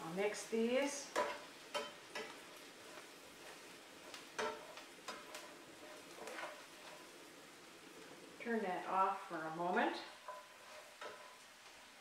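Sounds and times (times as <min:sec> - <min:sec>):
faint steady sizzle: 0:00.0 - 0:12.0
utensil scraping a skillet: 0:00.1 - 0:08.4, 0:09.1 - 0:12.0.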